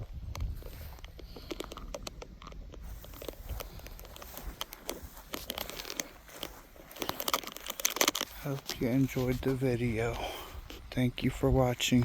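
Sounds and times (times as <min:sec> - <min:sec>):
crunching and crackling: 0:00.0 - 0:12.0.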